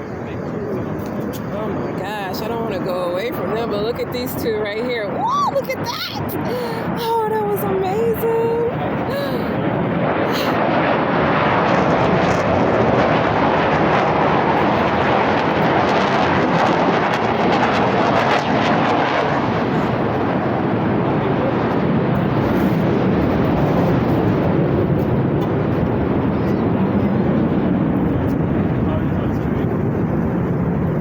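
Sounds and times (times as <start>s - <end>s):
jet aircraft roaring past: 0.0s - 31.0s.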